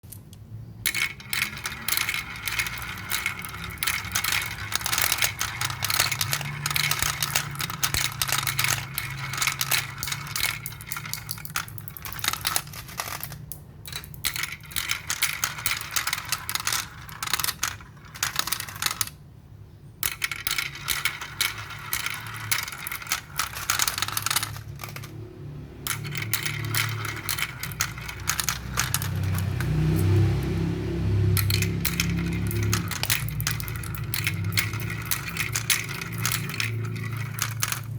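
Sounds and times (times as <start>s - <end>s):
marbles rolling and clattering: 0.6s - 37.9s.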